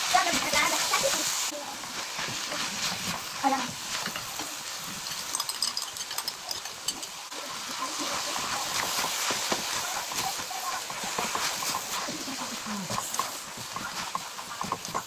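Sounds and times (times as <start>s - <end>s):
noodles sizzling in frying pan: 0.0s - 15.0s.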